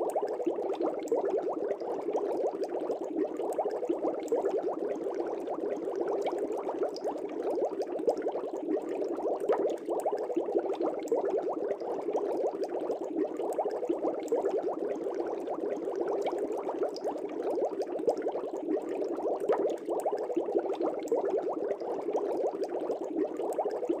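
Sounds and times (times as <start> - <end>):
air bubbles in water: 0.0 - 24.0.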